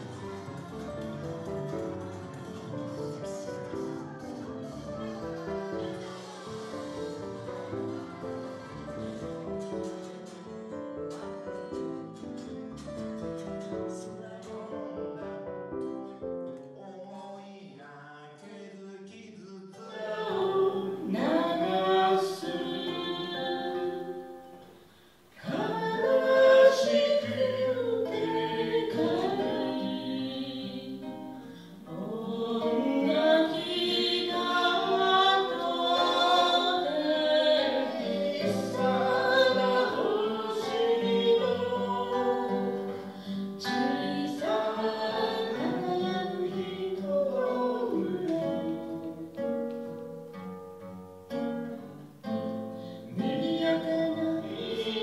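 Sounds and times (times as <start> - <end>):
acoustic guitar: 0.0 - 55.0.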